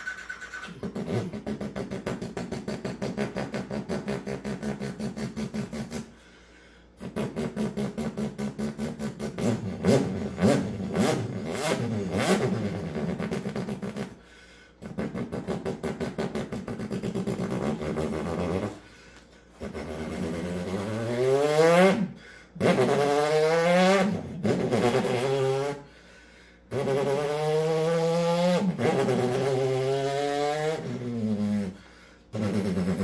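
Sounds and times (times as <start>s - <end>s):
man imitating engine with mouth: 0.0s - 6.4s, 7.0s - 26.0s, 26.7s - 33.0s.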